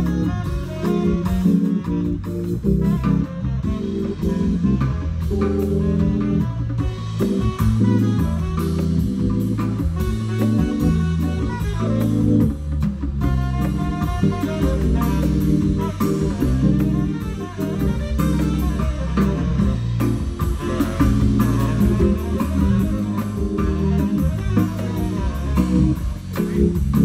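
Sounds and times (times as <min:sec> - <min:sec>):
jazz band playing: 0:00.0 - 0:27.0.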